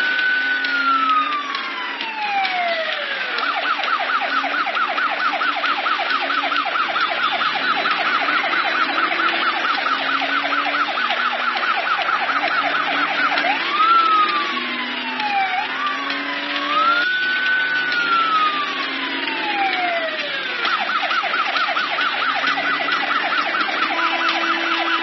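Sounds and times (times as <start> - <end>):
police siren wail: 0.0 - 25.0
police siren yelp: 0.0 - 25.0.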